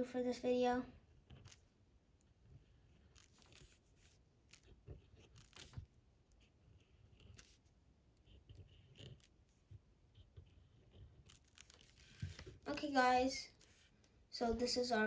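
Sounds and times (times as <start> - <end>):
marker scratching on paper: 1.1 - 1.7, 2.4 - 14.7.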